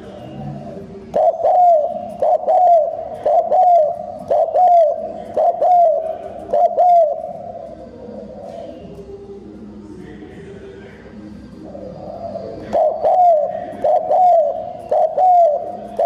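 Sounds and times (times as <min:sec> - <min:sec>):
dove cooing: 0:00.0 - 0:09.0, 0:11.7 - 0:16.0.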